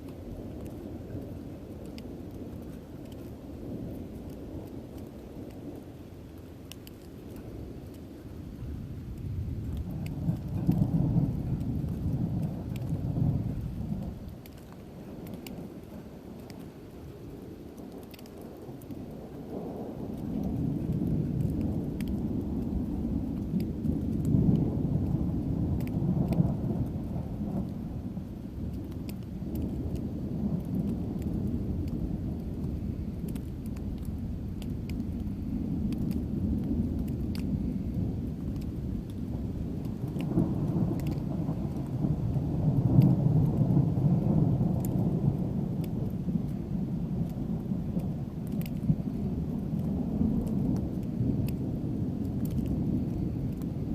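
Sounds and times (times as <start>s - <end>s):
rain pattering: 0.0s - 53.9s
thunder rumbling: 0.0s - 53.9s.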